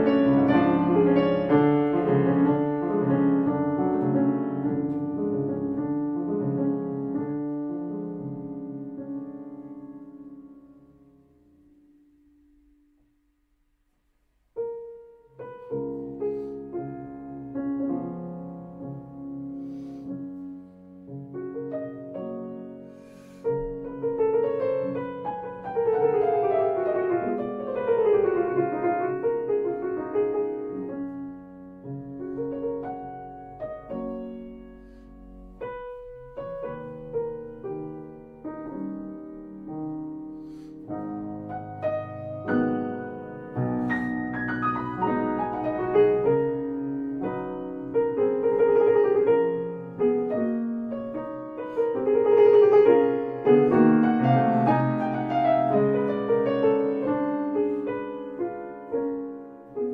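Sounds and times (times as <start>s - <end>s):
fast virtuosic grand piano: 0.0s - 11.8s, 14.6s - 59.9s.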